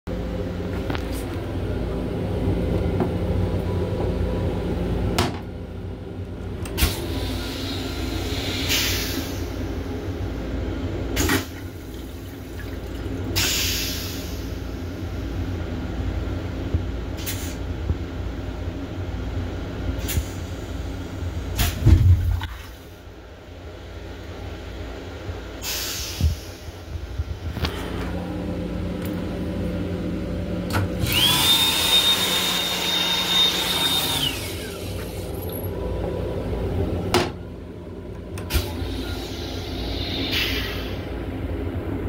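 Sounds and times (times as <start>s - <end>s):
railcar low rumble and hum: 0.1s - 31.4s, 34.2s - 42.0s.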